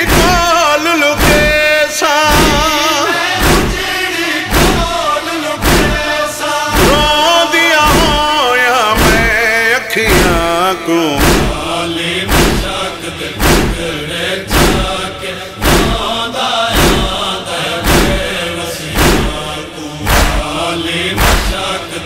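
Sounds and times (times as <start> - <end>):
chest-beating slaps: 0.0 - 0.6, 1.2 - 8.4, 9.0 - 9.4, 10.1 - 10.6, 11.2 - 21.8
men chanting a lament: 0.0 - 22.0.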